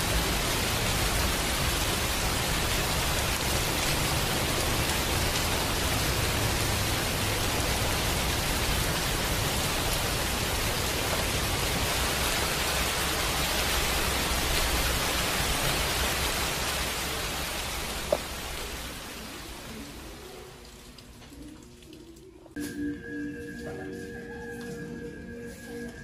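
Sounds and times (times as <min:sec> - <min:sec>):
heavy rain on paving and plants: 0:00.0 - 0:22.6.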